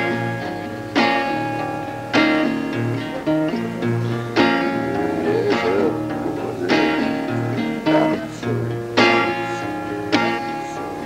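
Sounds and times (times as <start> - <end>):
acoustic guitar chords strummed: 0.0 - 11.0.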